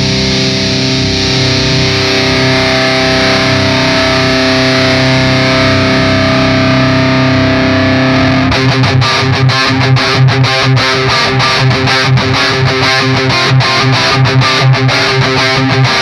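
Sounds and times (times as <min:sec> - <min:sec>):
distorted electric guitar: 0:00.0 - 0:16.0.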